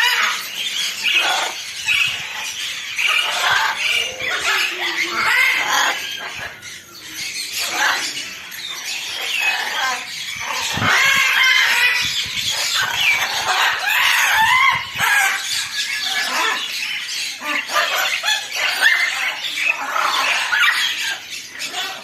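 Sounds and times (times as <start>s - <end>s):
many birds calling: 0.0s - 22.0s.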